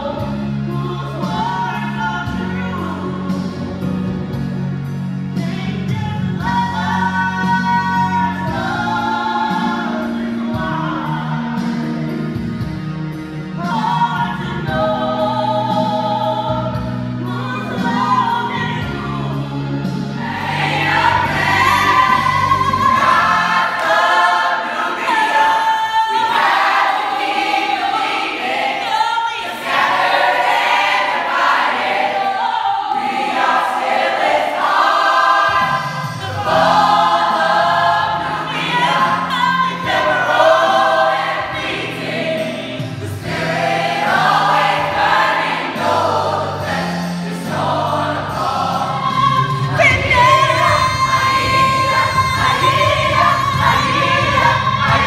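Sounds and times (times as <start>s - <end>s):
musical accompaniment: 0.0s - 55.0s
choir singing: 5.4s - 12.3s, 13.6s - 55.0s.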